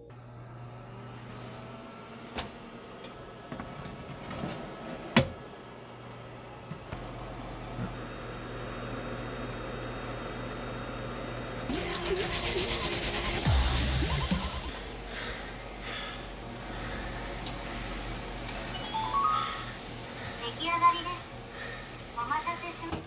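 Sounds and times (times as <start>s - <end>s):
deeper hum: 0.0s - 23.0s
oven humming: 0.0s - 23.0s.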